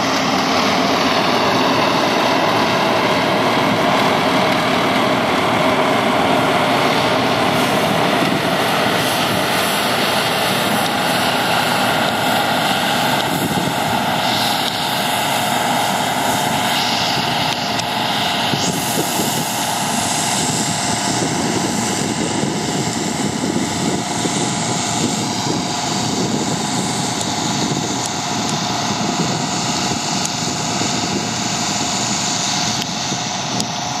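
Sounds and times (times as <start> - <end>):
combine harvester drone: 0.0 - 34.0.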